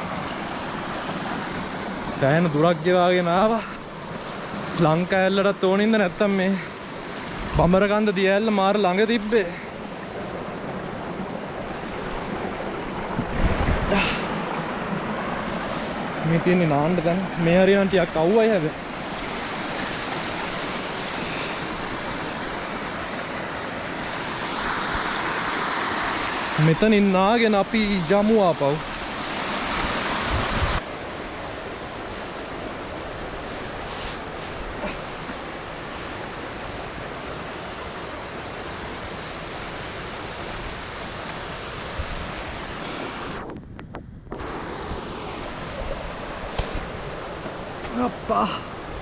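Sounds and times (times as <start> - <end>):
mountain stream rushing: 0.0 - 43.6, 44.3 - 49.0.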